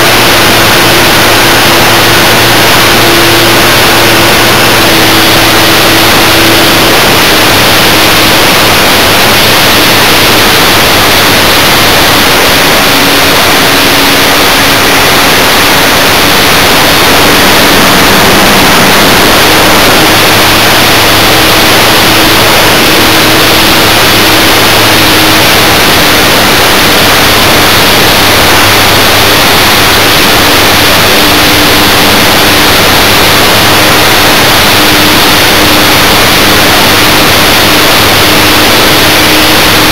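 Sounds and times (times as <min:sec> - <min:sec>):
wind and propeller rush: 0:00.0 - 0:39.9.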